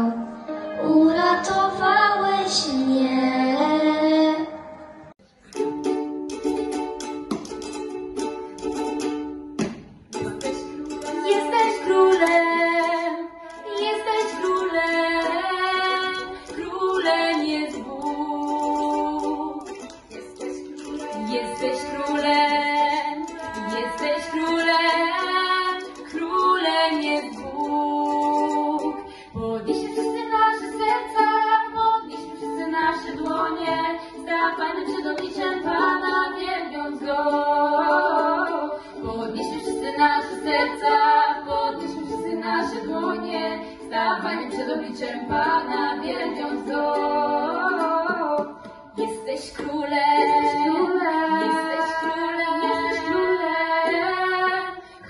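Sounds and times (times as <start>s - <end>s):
girls singing: 0.0s - 55.0s
ukulele: 0.0s - 55.0s.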